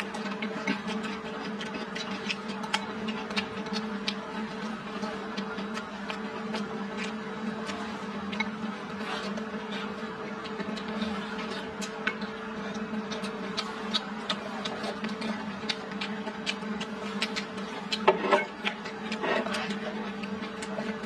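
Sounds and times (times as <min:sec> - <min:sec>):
person chewing food: 0:00.0 - 0:21.0
steady low hum: 0:00.0 - 0:21.0.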